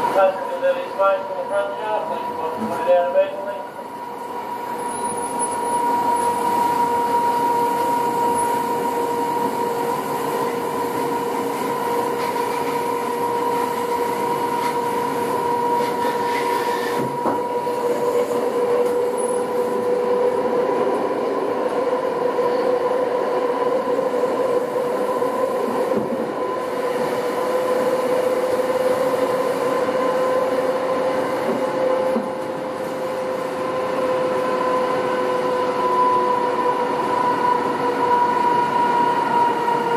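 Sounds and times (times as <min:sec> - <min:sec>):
steady train whine: 0:00.0 - 0:39.9
train wheels rumbling on track: 0:00.0 - 0:39.9.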